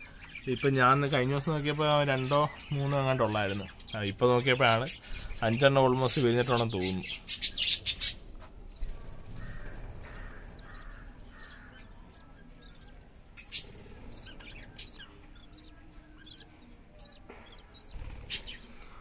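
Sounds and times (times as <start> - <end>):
budgerigars chirping: 0.0 - 19.0
faint background noise: 0.0 - 19.0.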